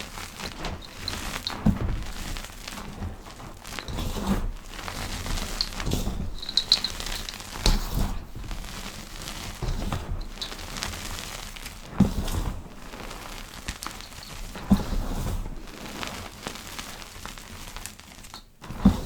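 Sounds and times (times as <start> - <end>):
powder crushing crackles: 0.0 - 19.0.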